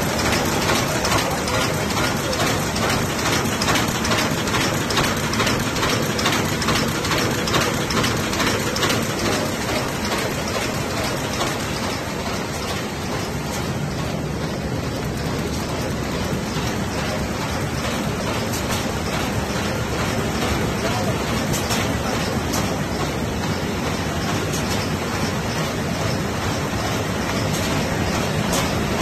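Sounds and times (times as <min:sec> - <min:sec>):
bag making machine clattering: 0:00.0 - 0:29.0.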